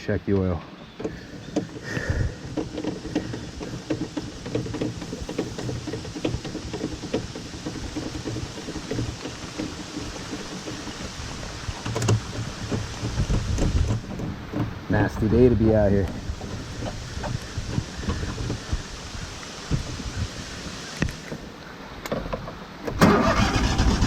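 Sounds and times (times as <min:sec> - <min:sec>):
heavy rain on hard surfaces: 0:01.4 - 0:22.4.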